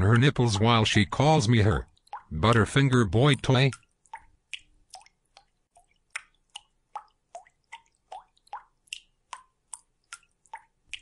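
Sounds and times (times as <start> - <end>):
water dripping: 0.0 - 11.0.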